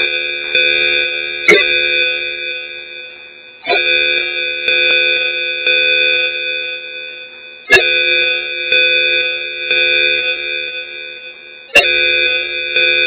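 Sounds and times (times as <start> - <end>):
ringing call alert melody: 0.0 - 13.0.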